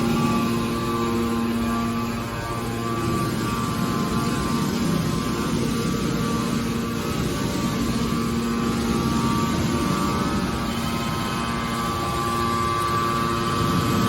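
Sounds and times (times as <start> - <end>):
baler mechanical drone: 0.0 - 14.0.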